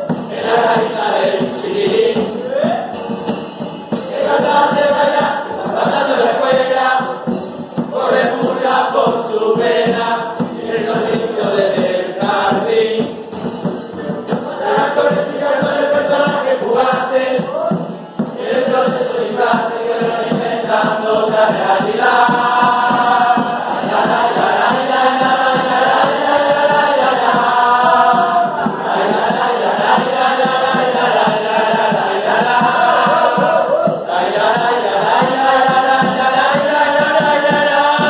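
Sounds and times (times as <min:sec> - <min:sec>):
group singing in chorus: 0:00.0 - 0:38.0
steady drum beats: 0:00.0 - 0:38.0.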